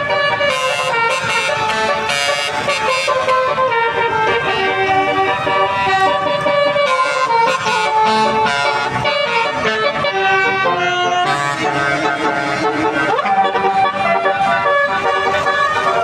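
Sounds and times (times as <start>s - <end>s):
musical air horns playing a tune: 0.0s - 16.0s.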